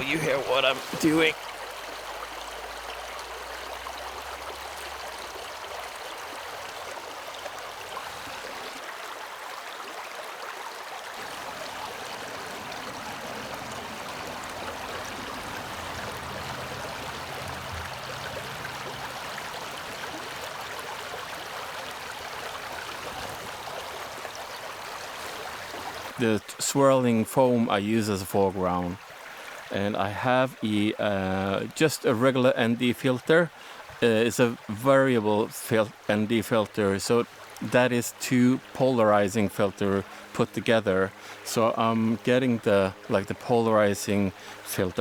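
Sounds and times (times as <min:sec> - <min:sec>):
river water rushing: 0:00.0 - 0:26.3, 0:28.9 - 0:45.0.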